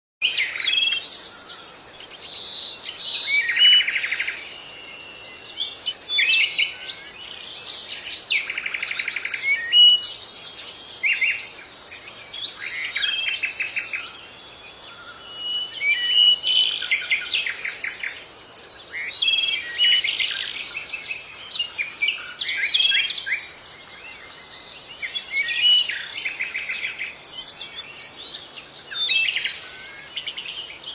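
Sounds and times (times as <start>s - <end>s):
songbirds singing and chirping: 0.2s - 30.9s.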